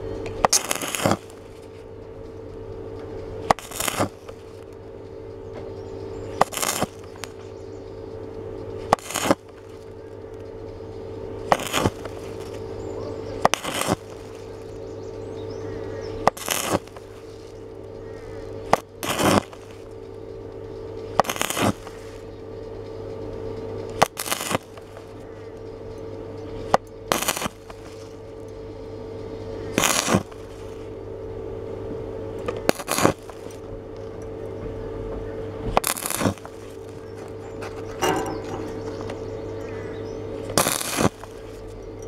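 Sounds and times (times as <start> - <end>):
welding arc crackling: 0.0 - 34.6, 35.6 - 42.0
electrical hum: 0.0 - 42.0.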